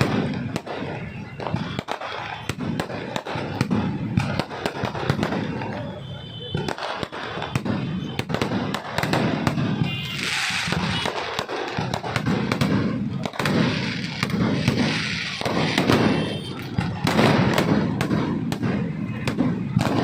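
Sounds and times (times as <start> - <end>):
continuous rumbling: 0.0 - 20.0
firework bangs and crackles: 0.0 - 20.0.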